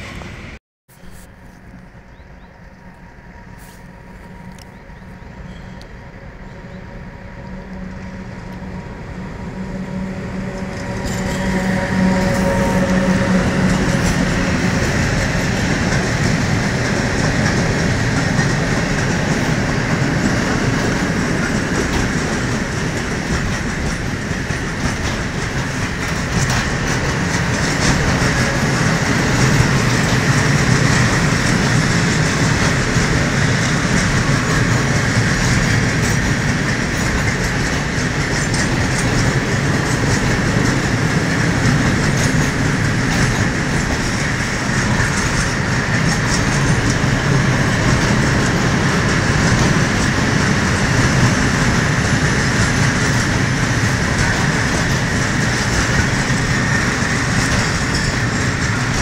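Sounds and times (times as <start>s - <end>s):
train passing on rails: 0.0s - 59.0s.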